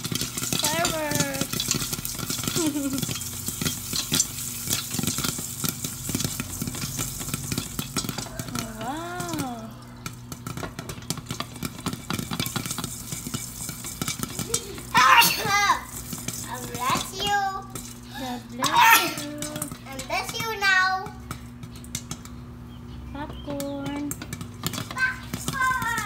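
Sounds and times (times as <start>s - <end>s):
popcorn popping in hot oil: 0.0s - 26.0s.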